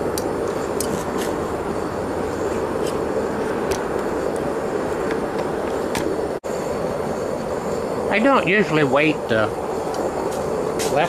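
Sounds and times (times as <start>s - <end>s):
furnace burner roaring: 0.0s - 11.0s.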